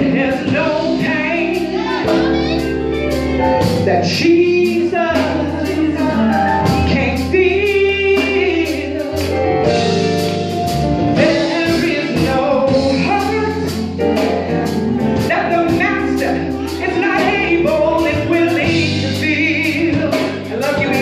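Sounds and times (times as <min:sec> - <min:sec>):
women's gospel group singing: 0:00.0 - 0:09.9, 0:11.1 - 0:21.0
keyboard accompaniment with beat: 0:00.0 - 0:21.0.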